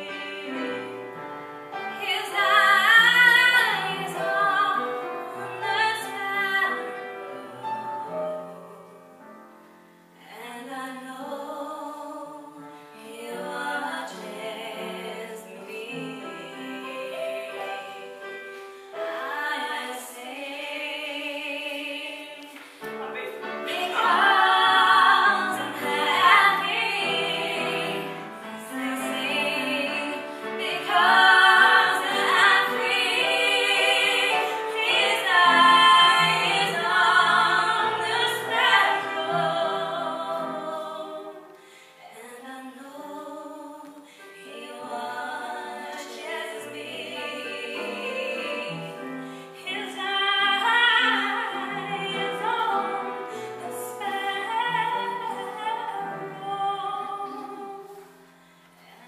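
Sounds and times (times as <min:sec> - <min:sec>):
choir singing a gospel hymn: 0:00.0 - 0:09.1, 0:10.2 - 0:59.0.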